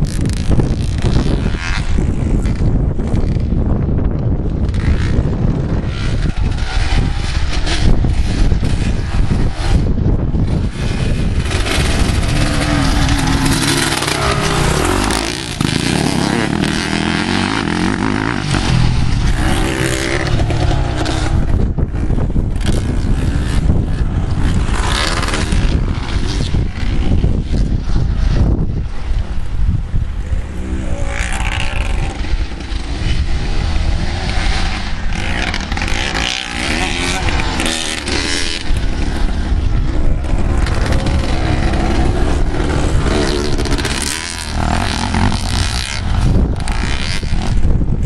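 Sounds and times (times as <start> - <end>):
dirt bike engine revving: 0.0 - 28.7, 30.3 - 48.0.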